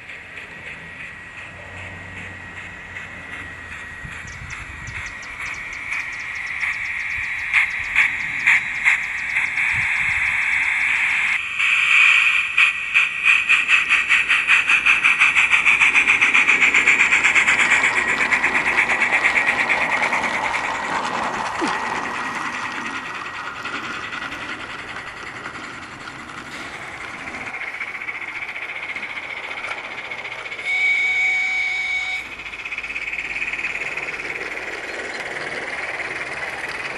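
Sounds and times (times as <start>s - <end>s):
steam hissing: 0.0s - 36.9s
steam locomotive exhaust chuffs: 0.0s - 36.9s.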